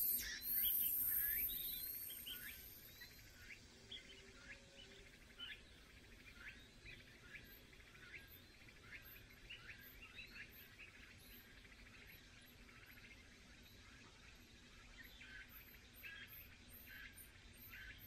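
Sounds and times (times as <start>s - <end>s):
low background hiss: 0.0s - 18.0s
small birds chirping: 0.0s - 18.0s.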